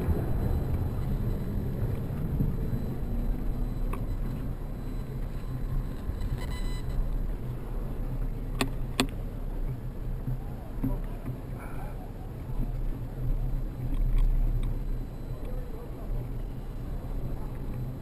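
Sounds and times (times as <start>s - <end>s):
bicycle rolling on streets: 0.0s - 18.0s.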